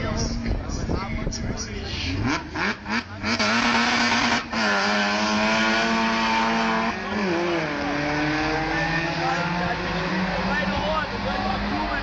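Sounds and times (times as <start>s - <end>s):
car engine at high revs: 2.0s - 12.0s.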